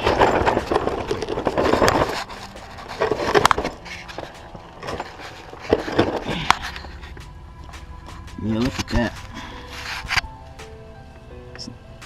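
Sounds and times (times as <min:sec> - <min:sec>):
metal rattling and scraping: 0:00.0 - 0:10.7.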